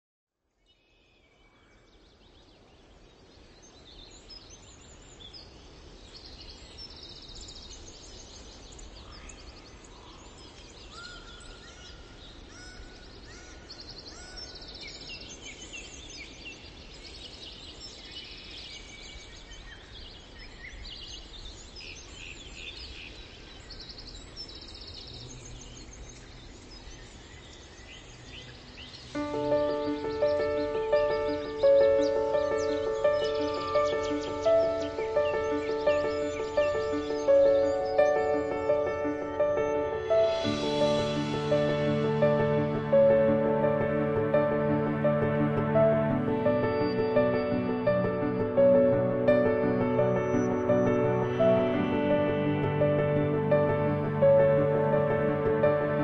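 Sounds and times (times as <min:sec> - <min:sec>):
songbirds chirping and trilling: 0:00.4 - 0:56.0
steady background hiss: 0:00.6 - 0:56.0.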